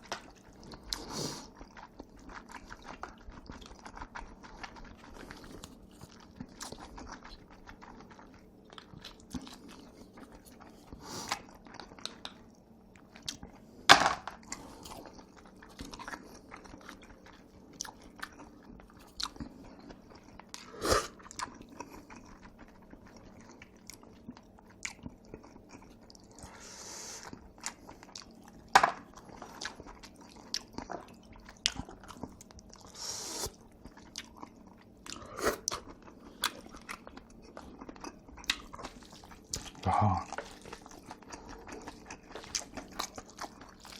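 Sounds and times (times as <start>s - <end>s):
chewing noodles: 0.0s - 43.9s.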